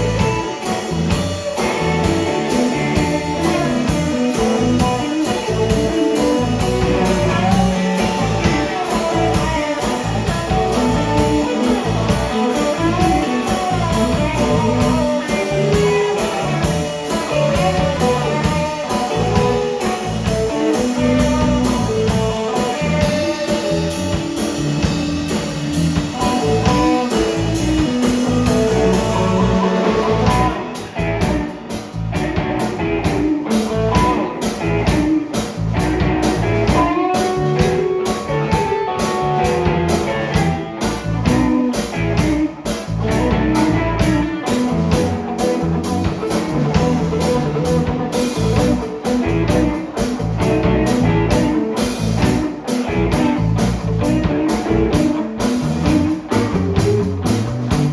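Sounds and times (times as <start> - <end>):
blues band playing: 0.0 - 57.9
electric guitar solo: 0.0 - 57.9.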